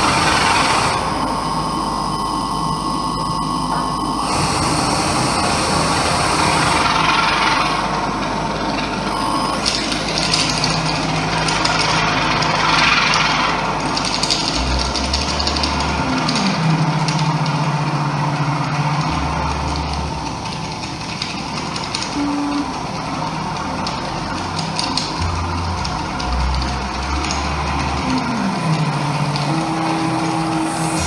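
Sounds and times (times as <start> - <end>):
deep hum: 0.0 - 31.0
droning tones: 0.0 - 31.0
grinding layered noise: 0.0 - 31.0.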